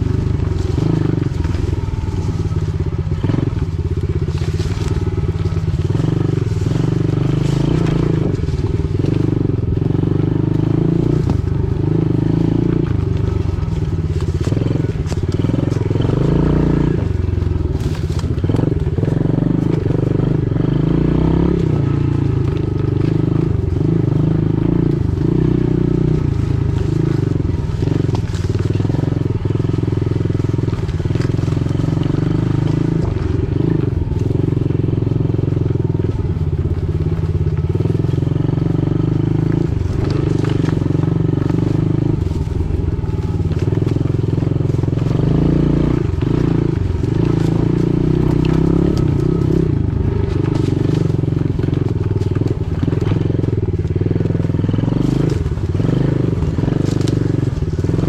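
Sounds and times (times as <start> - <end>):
pit bike engine revving: 0.0 - 58.0.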